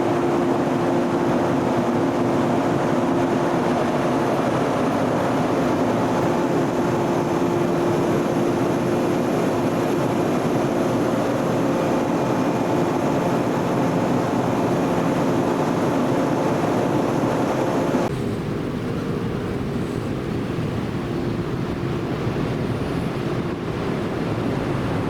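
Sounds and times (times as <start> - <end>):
train running with low hum: 0.0 - 25.0.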